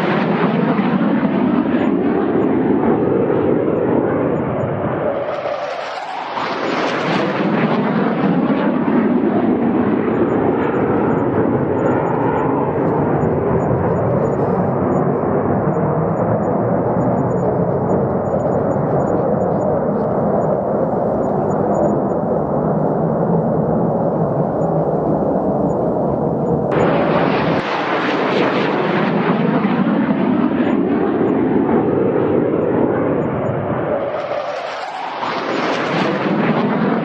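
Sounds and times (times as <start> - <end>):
jet sweeping past: 0.0 - 37.0
loud jet rumble: 0.0 - 37.0.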